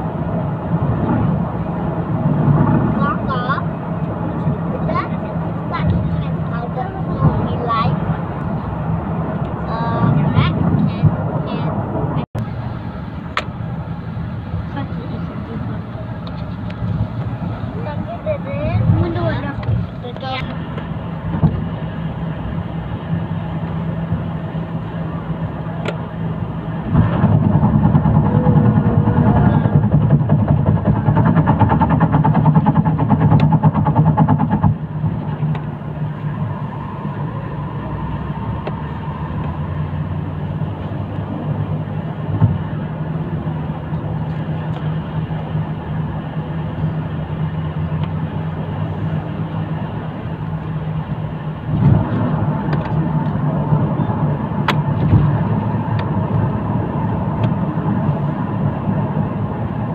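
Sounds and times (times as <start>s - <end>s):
road noise inside vehicle: 0.0s - 59.9s
vehicle engine hum: 0.0s - 59.9s.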